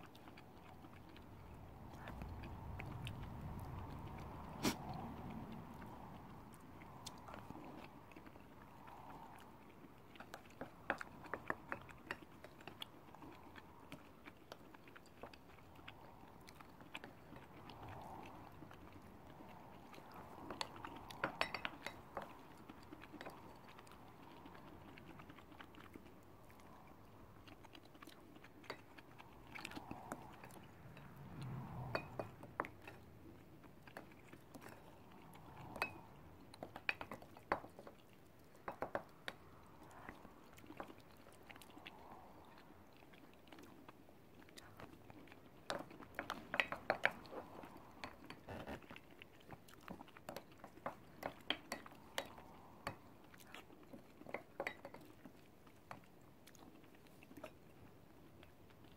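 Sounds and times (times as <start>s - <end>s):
chewing and wet mouth sounds: 0.0s - 58.9s.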